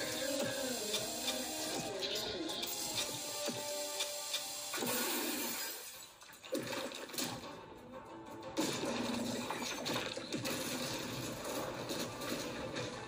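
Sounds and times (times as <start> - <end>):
anime soundtrack music: 0.0 - 13.0.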